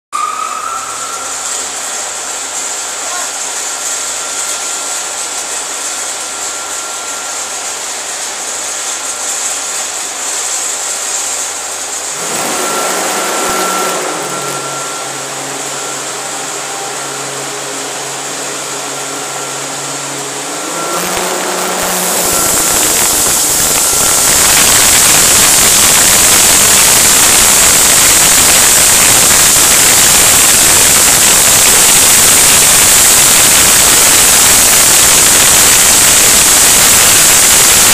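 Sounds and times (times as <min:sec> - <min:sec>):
blower humming: 0:00.1 - 0:37.9
air and grain rushing through pipe: 0:00.2 - 0:37.9.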